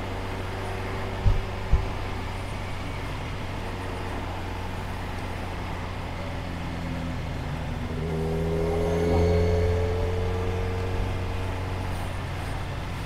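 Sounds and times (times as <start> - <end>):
motorcycle engine accelerating: 0.0 - 13.0
road noise: 0.0 - 13.0.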